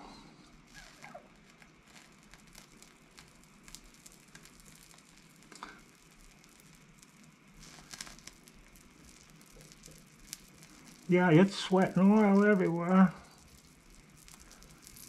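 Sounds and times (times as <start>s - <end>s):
gas torch flame hissing: 0.0s - 15.0s
oil crackling and sizzling: 0.2s - 15.0s.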